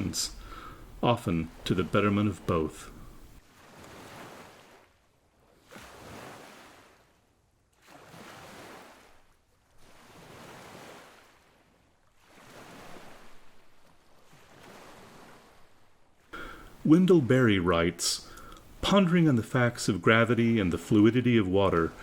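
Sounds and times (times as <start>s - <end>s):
small waves washing in: 0.0s - 22.0s.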